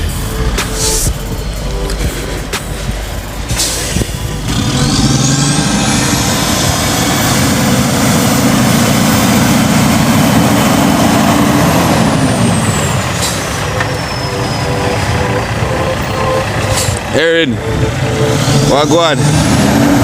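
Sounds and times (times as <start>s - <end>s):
engine revving: 0.0s - 20.0s.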